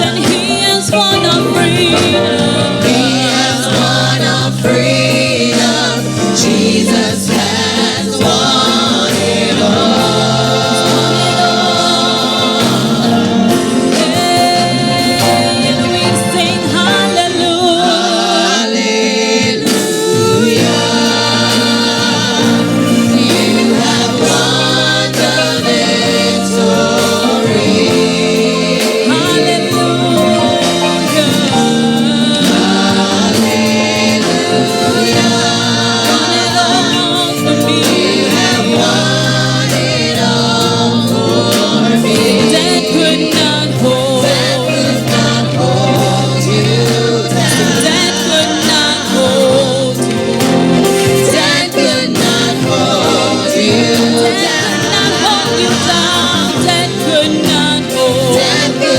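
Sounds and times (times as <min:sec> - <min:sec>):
group of voices singing: 0:00.0 - 0:58.9.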